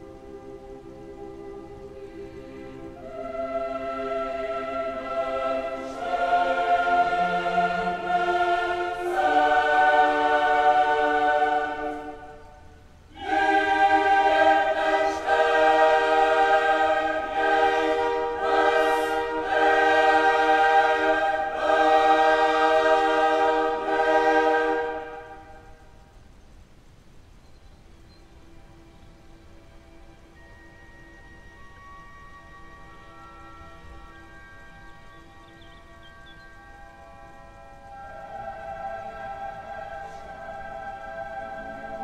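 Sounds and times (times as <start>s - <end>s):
choir singing slow chords: 0.0s - 42.0s.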